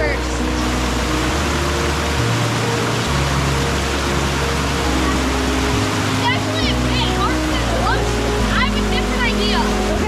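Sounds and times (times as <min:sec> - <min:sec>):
low sustained music notes: 0:00.0 - 0:10.0
river rushing: 0:00.0 - 0:10.0.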